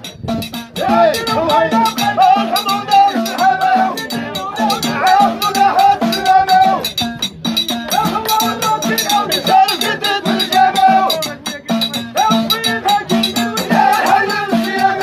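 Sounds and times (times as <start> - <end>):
hand percussion beat: 0.0 - 15.0
men chanting in unison: 0.8 - 7.1, 7.8 - 15.0.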